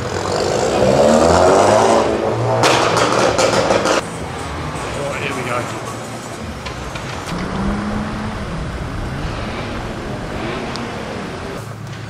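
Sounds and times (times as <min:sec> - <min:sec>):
car engines and exhausts: 0:00.0 - 0:12.0.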